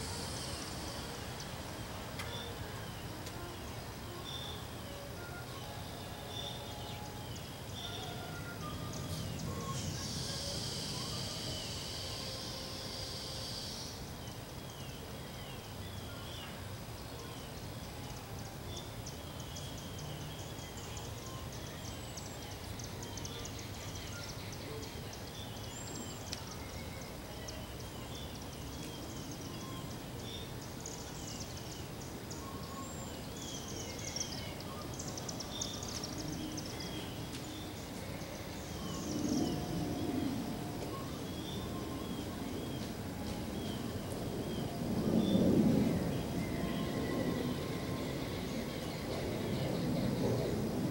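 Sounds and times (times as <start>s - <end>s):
bird chirping: 0.0s - 50.7s.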